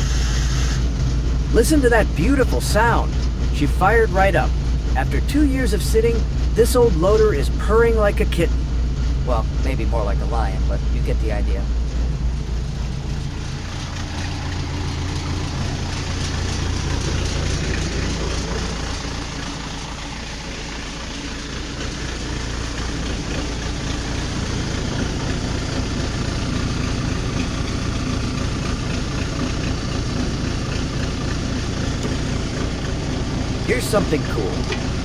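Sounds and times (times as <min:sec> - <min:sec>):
backhoe engine idling: 0:00.0 - 0:35.0.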